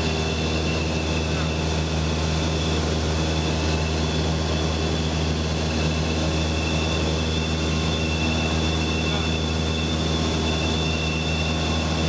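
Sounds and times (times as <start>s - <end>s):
aircraft engine droning: 0.0s - 12.0s
faint high whine: 0.0s - 12.0s.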